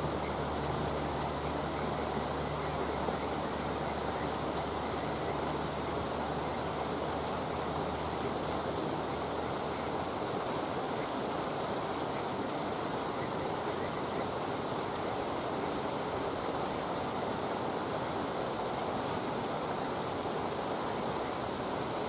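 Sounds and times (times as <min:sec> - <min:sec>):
campfire hissing and crackling: 0:00.0 - 0:22.0.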